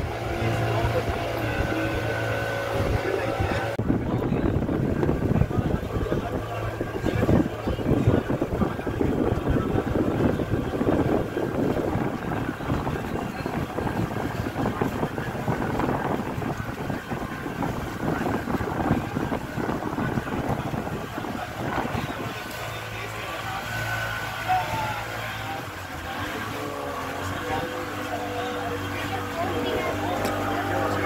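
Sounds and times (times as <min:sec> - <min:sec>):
boat engine humming: 0:00.0 - 0:31.0
faint voices: 0:00.0 - 0:31.0
wind buffeting the microphone: 0:00.0 - 0:31.0.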